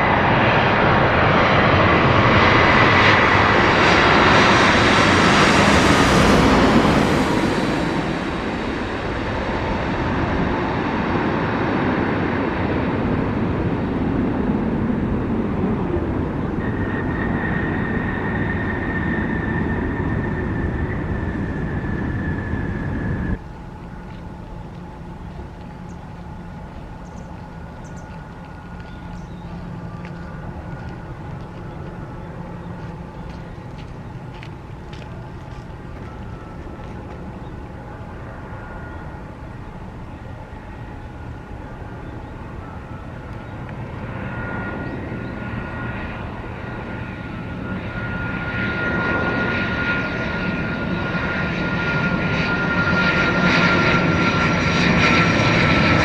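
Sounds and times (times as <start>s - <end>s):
distant jet engine hum: 0.0s - 56.0s
high engine whine: 0.0s - 56.0s
jet engines roaring: 0.0s - 56.0s.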